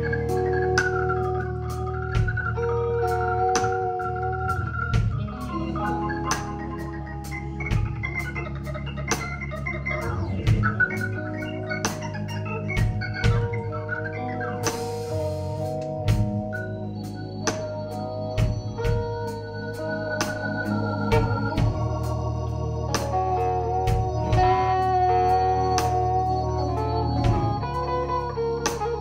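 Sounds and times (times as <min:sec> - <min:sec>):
organ keyboard chords: 0:00.0 - 0:29.0
steady bass: 0:00.0 - 0:29.0.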